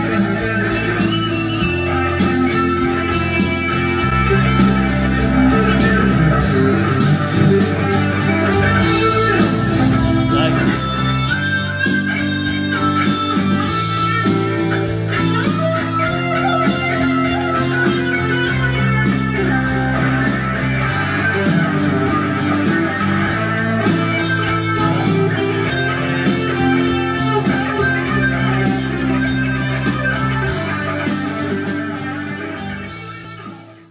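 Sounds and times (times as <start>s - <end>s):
electric guitar music with beat: 0.0s - 33.9s.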